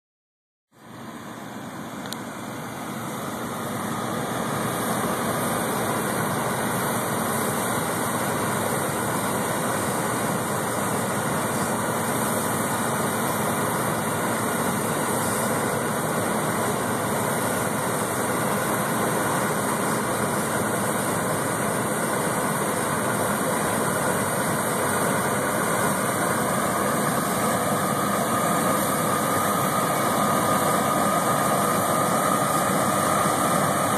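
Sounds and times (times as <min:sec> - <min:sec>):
combine harvester running: 0:00.7 - 0:33.9
faint whine: 0:00.7 - 0:33.9.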